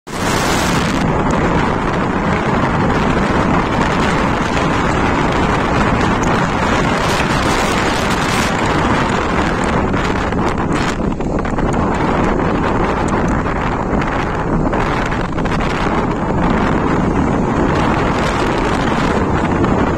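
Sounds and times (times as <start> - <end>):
wind blowing across microphone: 0.1 - 19.9.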